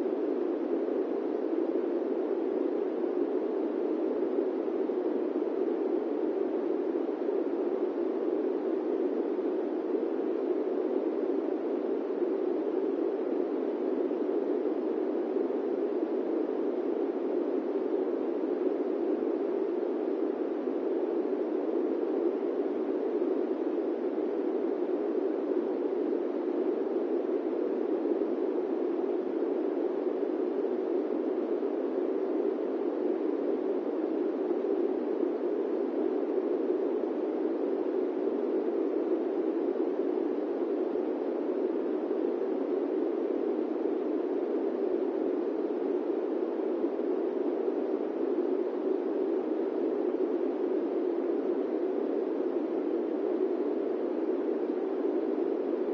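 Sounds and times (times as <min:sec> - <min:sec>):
airplane cabin white noise: 0:00.0 - 0:55.9.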